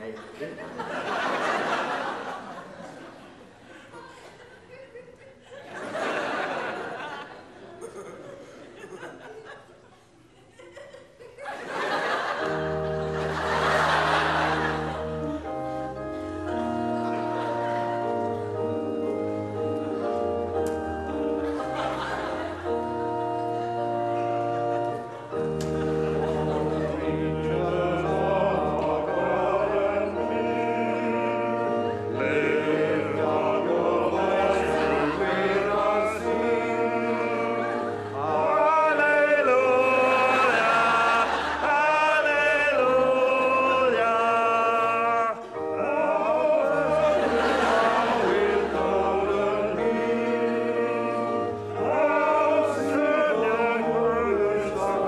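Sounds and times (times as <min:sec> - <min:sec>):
congregation singing a hymn: 0:00.0 - 0:03.2, 0:05.6 - 0:07.4, 0:11.5 - 0:55.0
organ chords: 0:00.0 - 0:03.3, 0:05.7 - 0:07.5, 0:11.4 - 0:55.0.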